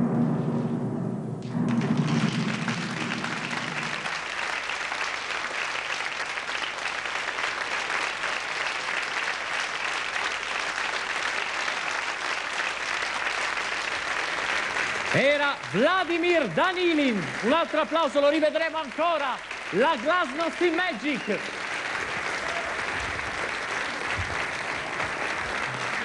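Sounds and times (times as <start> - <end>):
audience applauding: 1.4 - 26.0.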